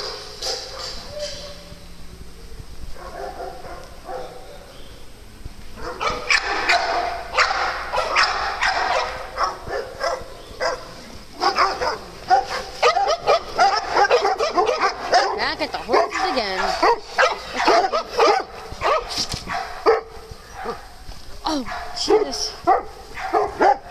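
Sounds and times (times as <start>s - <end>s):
dogs barking: 0.0s - 1.8s, 2.9s - 4.8s, 5.8s - 23.9s.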